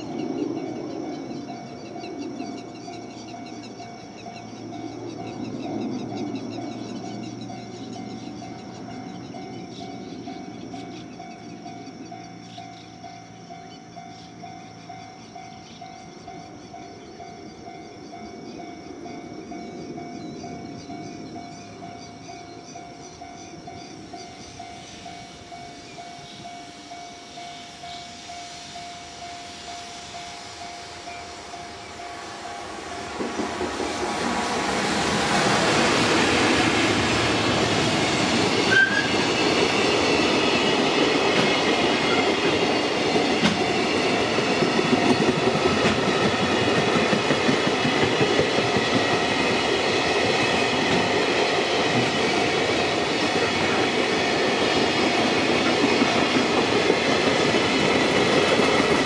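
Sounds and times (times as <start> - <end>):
high-pitched ringing: 0.0 - 59.0
train wheels clattering on rails: 0.0 - 59.0.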